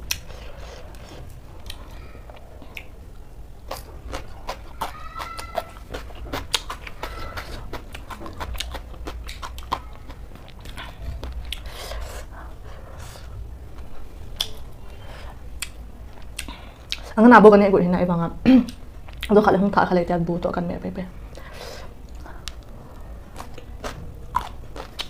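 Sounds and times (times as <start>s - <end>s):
chewing crunchy cabbage: 0.0s - 3.0s, 3.6s - 17.1s, 21.3s - 25.0s.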